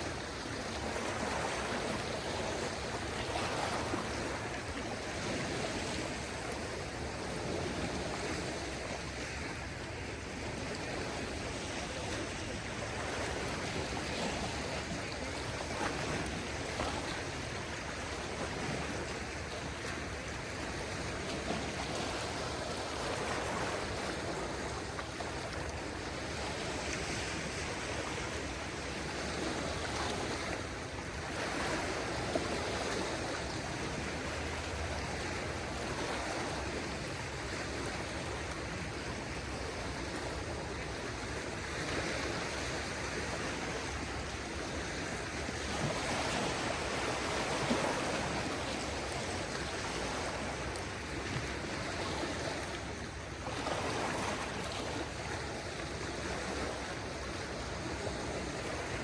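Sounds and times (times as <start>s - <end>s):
small waves washing on a beach: 0.0s - 59.0s.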